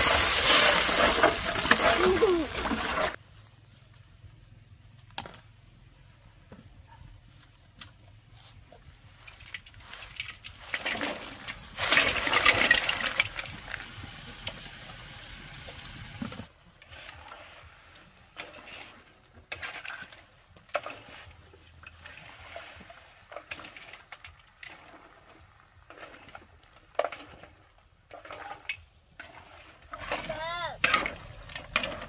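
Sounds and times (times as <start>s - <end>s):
water pouring and splashing: 0.0s - 3.2s, 9.1s - 32.0s.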